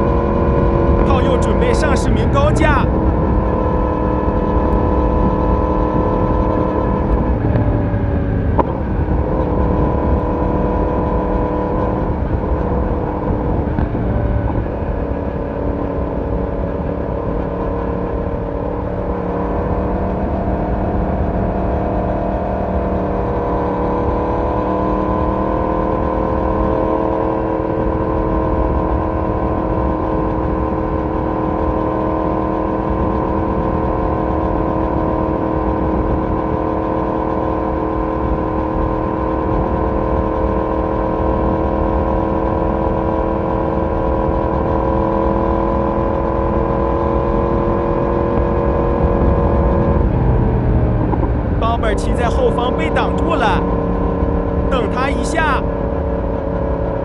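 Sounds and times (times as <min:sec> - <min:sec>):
motorcycle engine at speed: 0:00.0 - 0:57.0.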